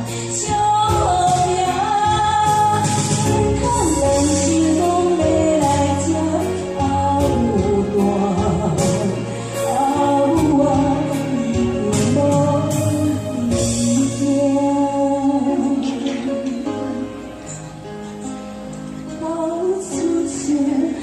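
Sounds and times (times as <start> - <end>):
backing music with bass: 0.0 - 21.0
person singing a ballad: 0.0 - 21.0.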